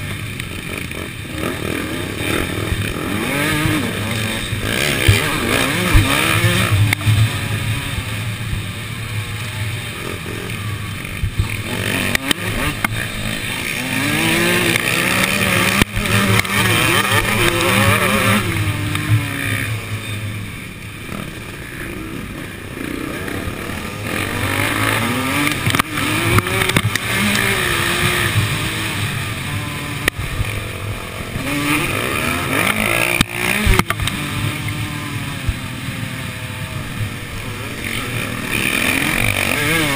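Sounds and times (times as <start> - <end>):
motocross bike engine racing: 0.0 - 39.9
other motorbike engines: 0.0 - 39.9.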